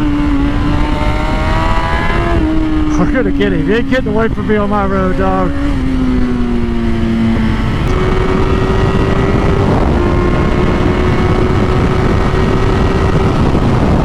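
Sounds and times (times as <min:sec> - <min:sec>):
motorcycle engine running hard: 0:00.0 - 0:14.0
wind rush: 0:00.0 - 0:14.0.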